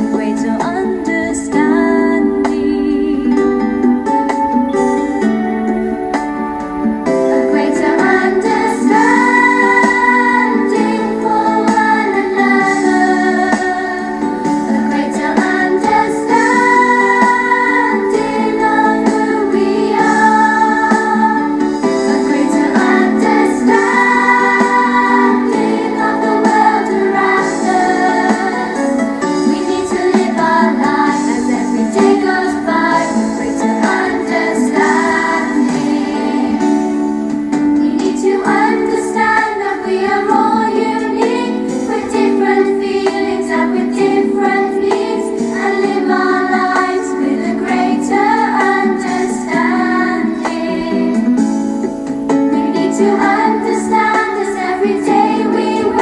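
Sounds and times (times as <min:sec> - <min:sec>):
voices singing with accompaniment: 0:00.0 - 0:56.0.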